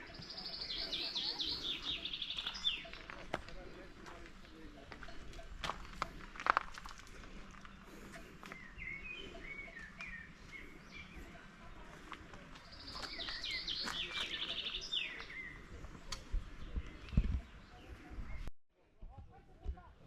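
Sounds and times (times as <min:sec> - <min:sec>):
songbirds chirping: 0:00.0 - 0:18.5.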